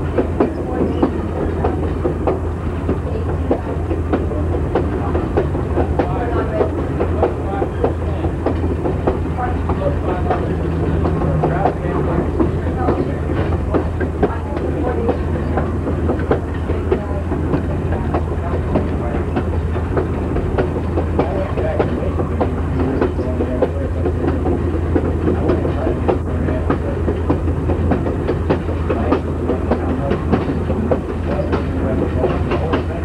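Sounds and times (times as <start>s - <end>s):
train car rumbling on track: 0.0s - 33.0s.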